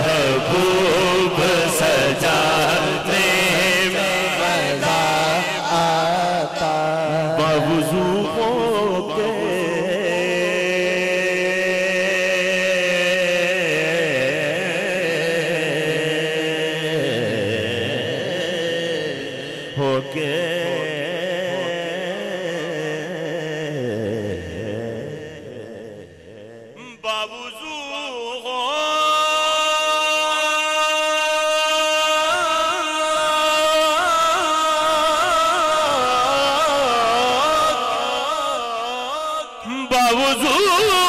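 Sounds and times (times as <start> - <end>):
man singing through a microphone: 0.0 - 41.0.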